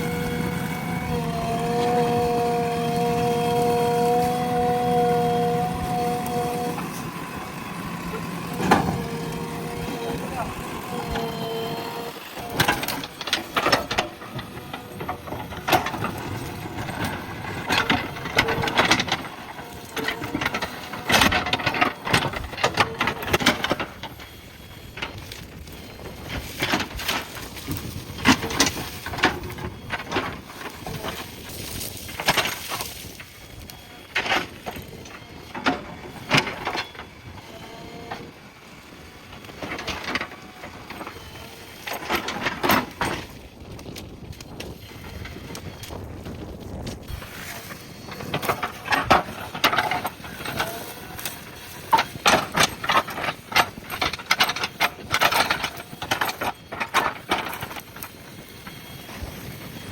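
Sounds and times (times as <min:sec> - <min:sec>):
branches cracking and crunching: 0:00.0 - 0:59.0.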